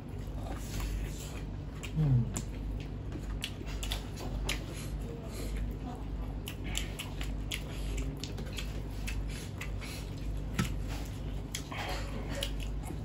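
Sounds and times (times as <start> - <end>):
low steady hum: 0.0 - 13.0
wet chewing and mouth smacks: 0.4 - 13.0.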